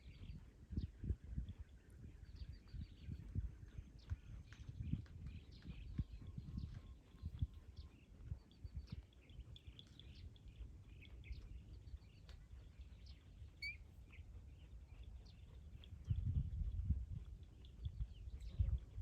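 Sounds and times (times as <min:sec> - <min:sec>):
birds chirping: 0:02.4 - 0:19.0.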